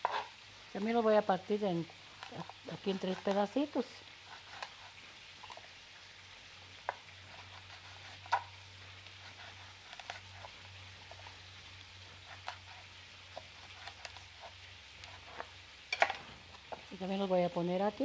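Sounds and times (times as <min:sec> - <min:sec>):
faint sizzle of meat browning: 0:00.0 - 0:18.0.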